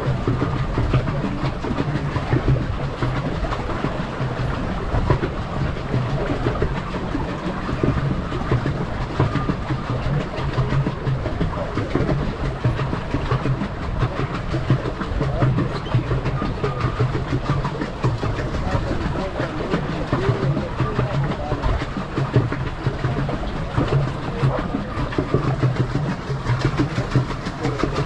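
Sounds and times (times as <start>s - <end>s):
paddle wheel splashing water: 0.0s - 28.0s.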